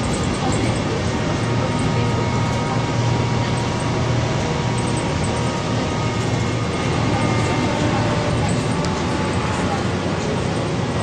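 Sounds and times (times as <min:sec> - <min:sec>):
trolleybus cabin rumble: 0:00.0 - 0:11.0.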